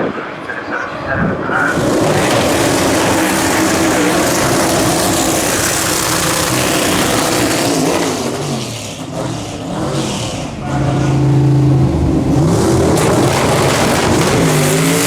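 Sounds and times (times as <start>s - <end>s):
dragster engine running hard: 1.5s - 15.0s.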